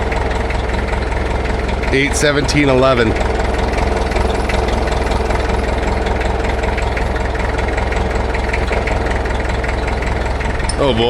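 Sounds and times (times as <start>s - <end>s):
machine droning with fine rattle: 0.0s - 11.0s.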